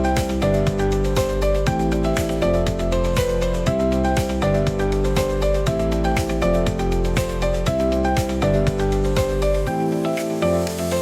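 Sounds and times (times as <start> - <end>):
thumping low beat: 0.0 - 9.8
background music with held notes: 0.0 - 11.0.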